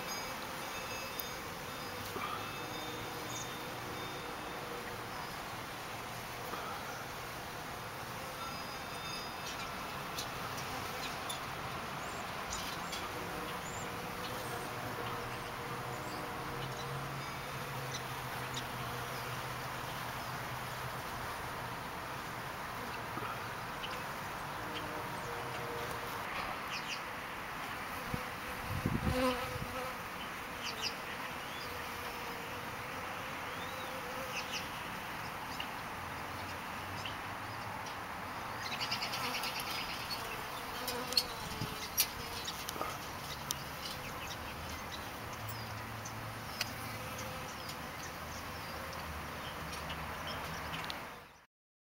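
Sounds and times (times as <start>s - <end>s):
bees buzzing: 0.0s - 26.9s, 27.6s - 35.2s, 38.9s - 49.0s.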